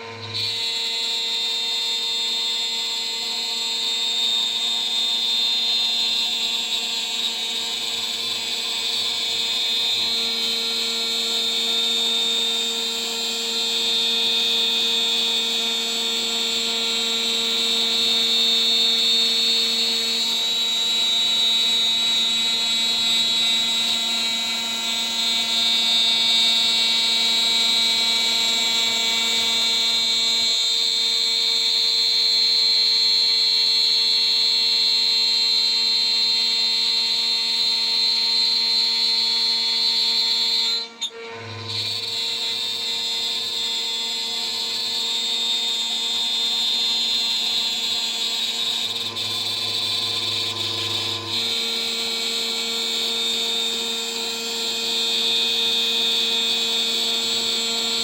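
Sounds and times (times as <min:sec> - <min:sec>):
router spindle whine: 0:00.0 - 0:58.0.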